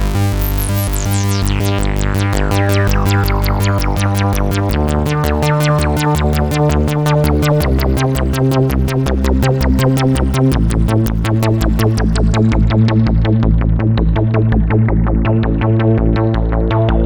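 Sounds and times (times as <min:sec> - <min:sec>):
synth bass line: 0:00.0 - 0:17.0
synthesizer bright repeating notes: 0:00.0 - 0:17.0.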